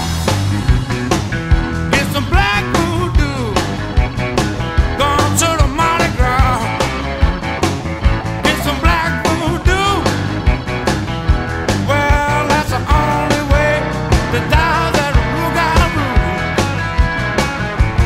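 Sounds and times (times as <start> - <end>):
rock song with drum beat: 0.0 - 18.0.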